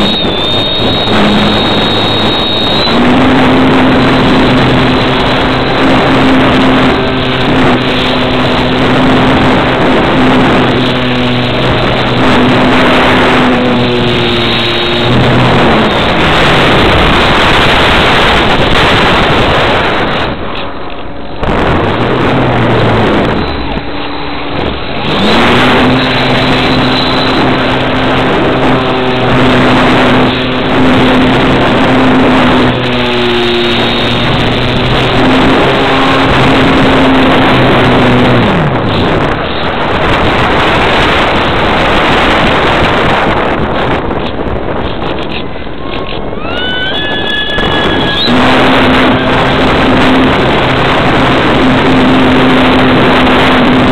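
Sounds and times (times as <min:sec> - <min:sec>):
model airplane motor: 0:00.0 - 0:53.9
wind rush: 0:00.0 - 0:53.9.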